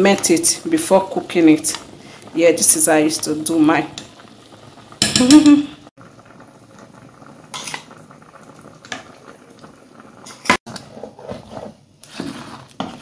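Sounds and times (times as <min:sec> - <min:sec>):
pot bubbling: 0:00.0 - 0:13.0.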